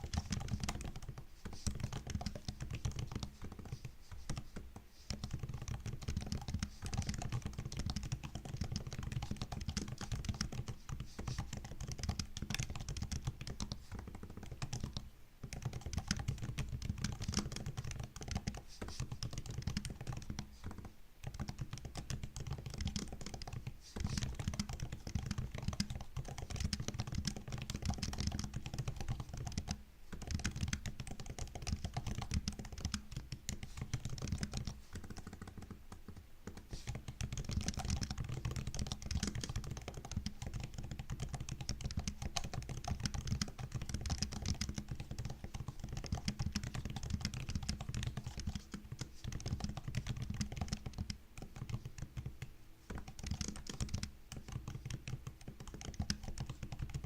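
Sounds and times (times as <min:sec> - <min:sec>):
laptop keyboard typing: 0:00.0 - 0:57.0.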